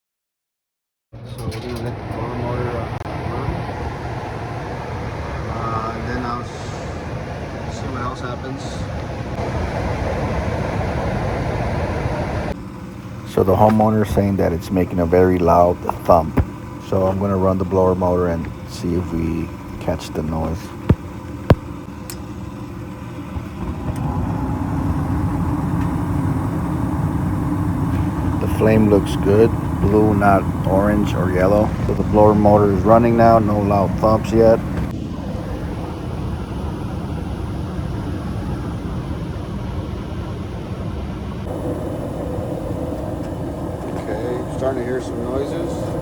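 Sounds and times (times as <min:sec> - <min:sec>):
furnace blower motor hum: 0:01.3 - 0:46.0.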